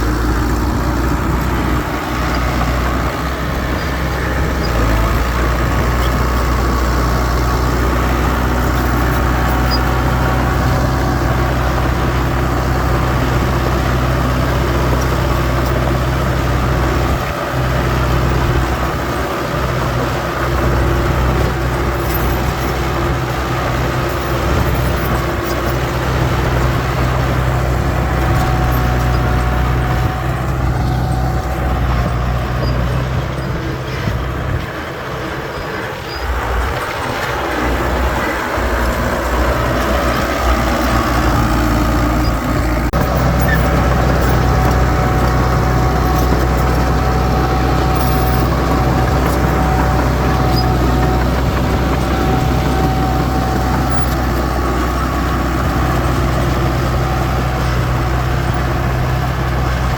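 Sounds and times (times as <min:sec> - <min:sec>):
heavy machinery diesel engines droning: 0:00.0 - 0:59.9.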